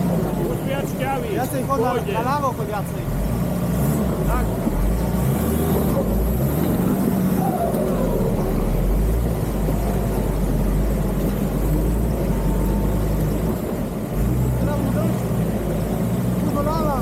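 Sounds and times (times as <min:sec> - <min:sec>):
deep engine running: 0:00.0 - 0:17.0.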